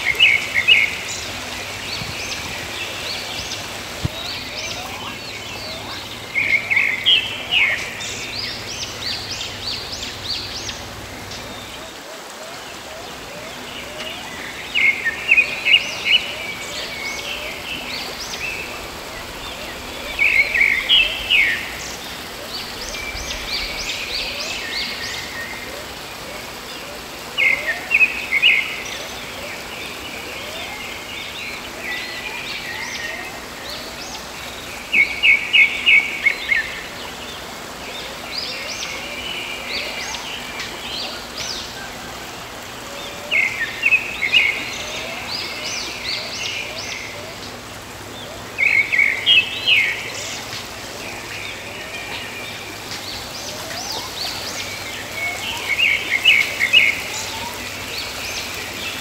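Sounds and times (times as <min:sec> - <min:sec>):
flowing water: 0:00.0 - 0:59.0
other birds calling: 0:00.0 - 0:59.0
songbird chirping: 0:00.0 - 0:59.0.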